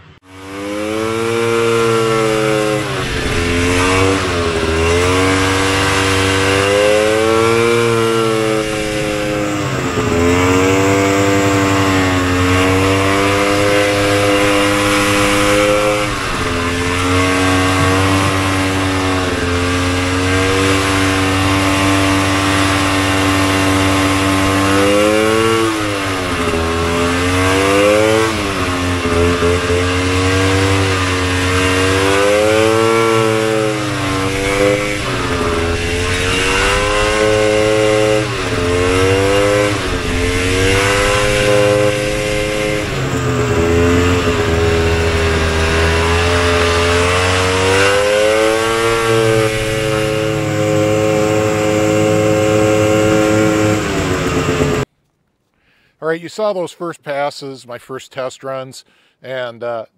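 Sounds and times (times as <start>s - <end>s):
two-stroke snowmobile engine revving: 0.0s - 54.9s.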